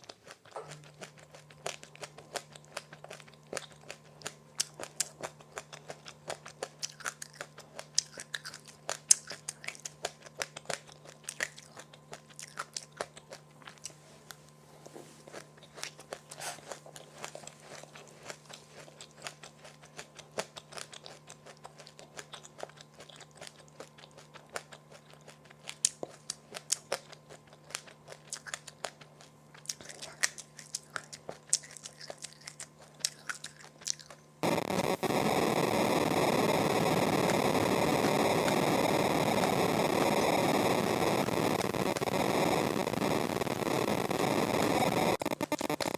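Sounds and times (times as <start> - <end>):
person chewing crunchy food: 0.0 - 43.1, 45.2 - 45.9
faint low hum: 0.0 - 45.9.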